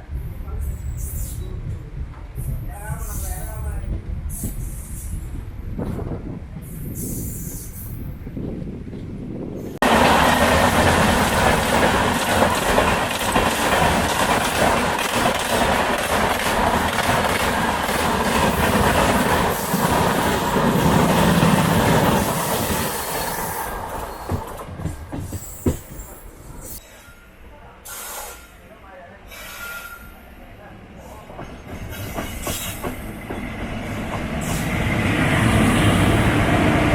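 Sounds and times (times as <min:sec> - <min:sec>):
train wheels on track: 0:00.0 - 0:36.9.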